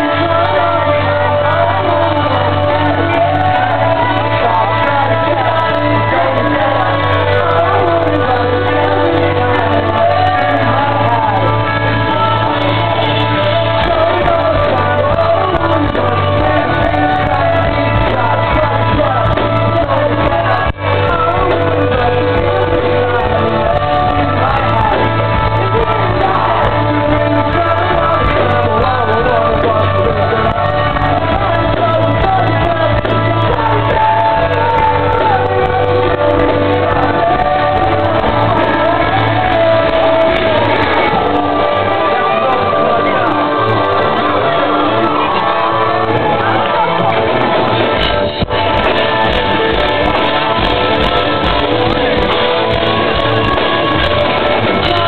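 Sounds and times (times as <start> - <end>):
pop-punk band playing live: 0.0 - 55.0
sung and shouted vocals: 0.0 - 55.0.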